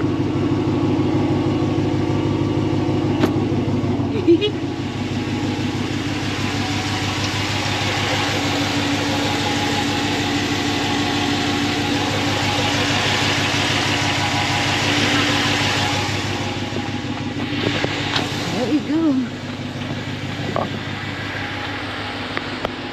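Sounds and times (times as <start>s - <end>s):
truck engine idling: 0.0s - 22.9s.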